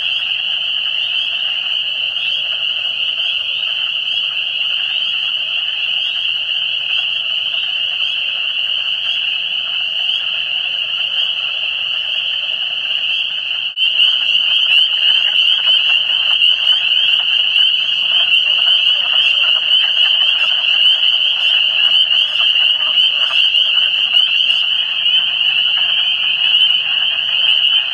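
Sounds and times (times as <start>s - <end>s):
frogs calling in chorus: 0.0s - 27.9s.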